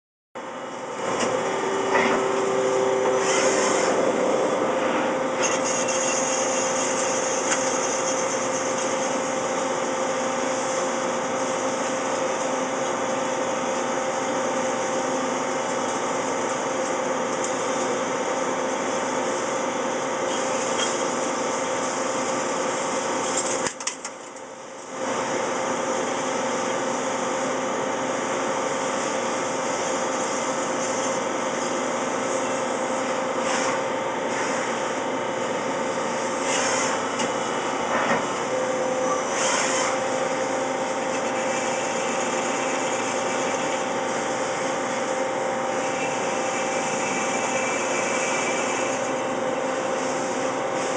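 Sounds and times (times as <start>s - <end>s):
constant machine hum: 0.4s - 50.9s
lathe cutting metal: 1.0s - 23.3s, 27.6s - 50.9s.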